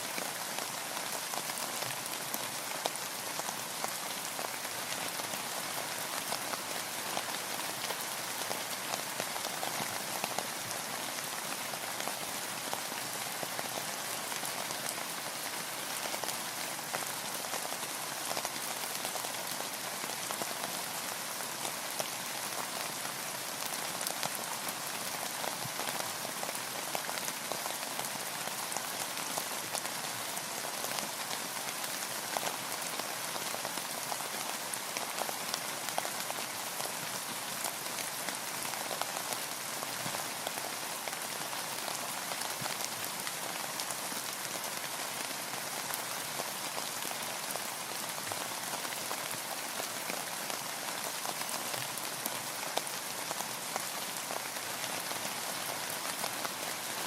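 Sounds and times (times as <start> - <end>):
rain pattering on a boat: 0.0 - 57.0.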